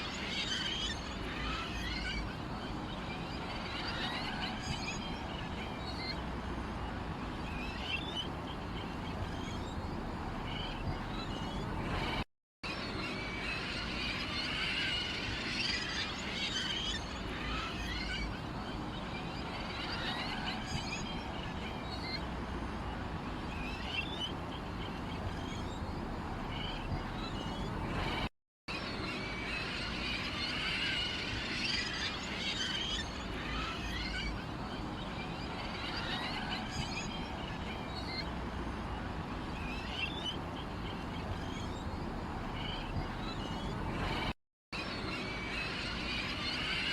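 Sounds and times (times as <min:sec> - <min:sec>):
small birds chirping: 0:00.1 - 0:12.2, 0:14.7 - 0:28.3, 0:28.9 - 0:44.3.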